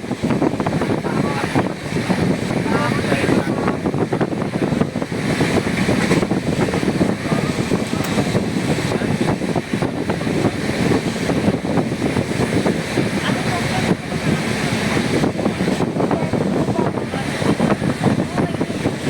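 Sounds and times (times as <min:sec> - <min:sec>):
train rumbling and rattling: 0:00.0 - 0:19.0
wind buffeting microphone: 0:00.0 - 0:19.0.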